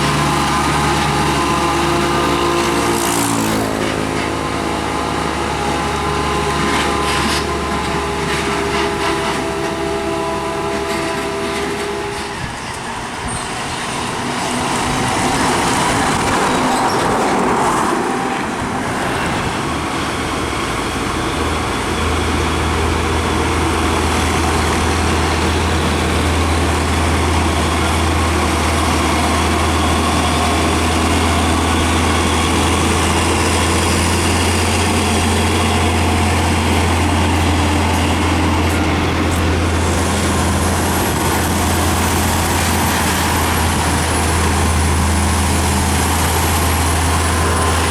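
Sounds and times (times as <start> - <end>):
diesel trucks passing: 0.0 - 47.9
low truck engine drone: 0.0 - 47.9
tyre and road noise: 0.0 - 47.9.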